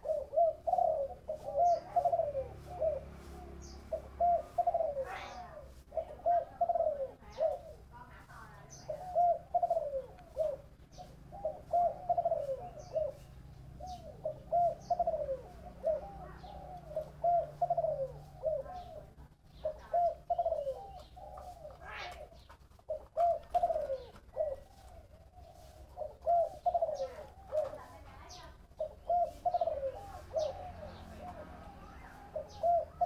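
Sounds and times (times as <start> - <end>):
dove cooing: 0.0 - 33.0.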